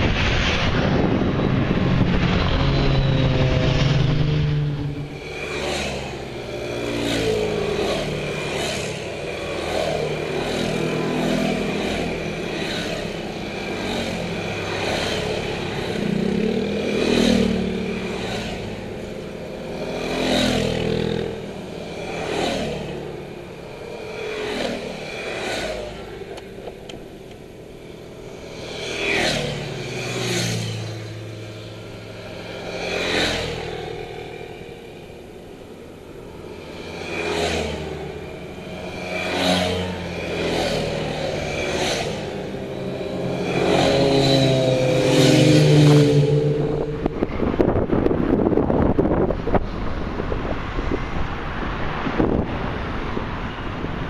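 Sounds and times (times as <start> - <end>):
motor scooters passing by: 0.1 - 54.0.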